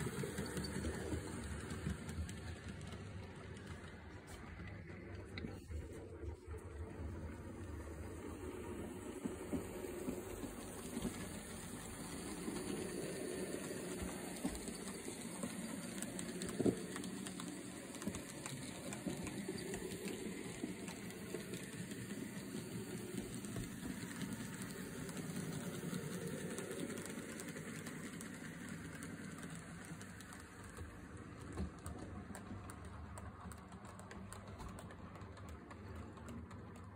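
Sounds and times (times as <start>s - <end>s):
wheels rolling on rails: 0.0s - 36.9s.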